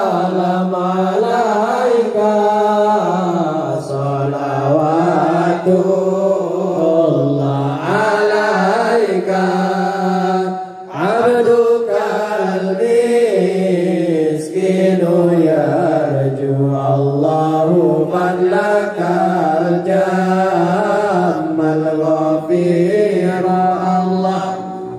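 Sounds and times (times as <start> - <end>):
men chanting in unison: 0.0 - 24.9.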